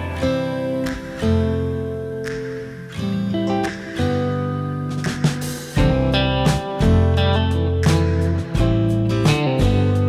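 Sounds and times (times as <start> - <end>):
strummed guitar music: 0.0 - 10.0.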